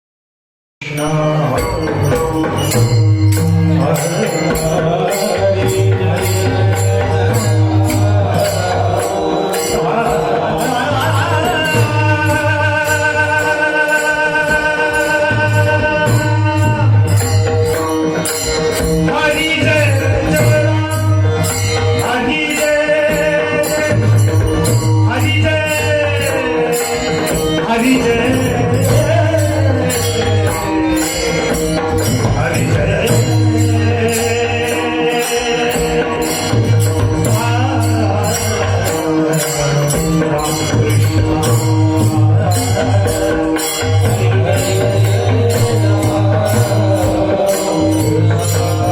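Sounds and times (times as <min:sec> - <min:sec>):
person singing devotional song: 0:00.8 - 0:48.9
small hand cymbals: 0:00.8 - 0:48.9
hand drum: 0:01.4 - 0:48.9.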